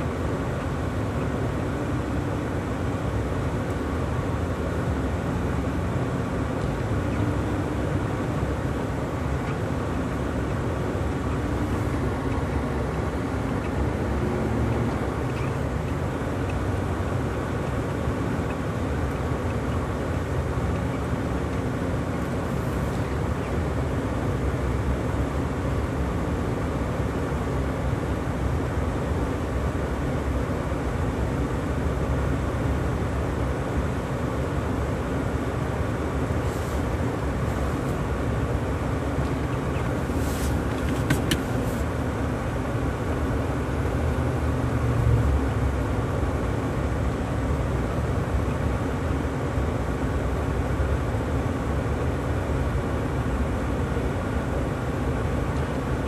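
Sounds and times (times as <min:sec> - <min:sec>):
truck engine and tyres rumbling: 0:00.0 - 0:56.0.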